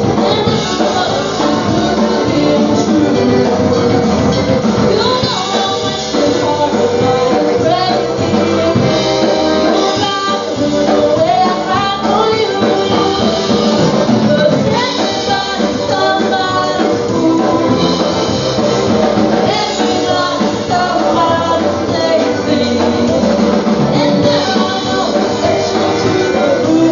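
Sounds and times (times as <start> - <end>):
accordion: 0.0 - 26.9
person singing: 0.0 - 26.9
polka band playing: 0.0 - 26.9.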